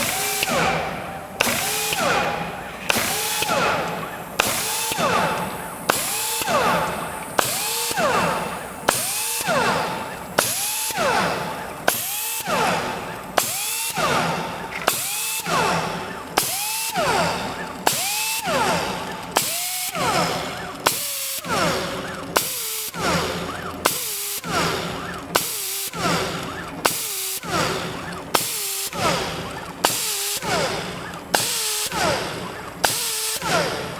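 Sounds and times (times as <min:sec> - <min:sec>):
power tool motor spinning: 0:00.0 - 0:33.9.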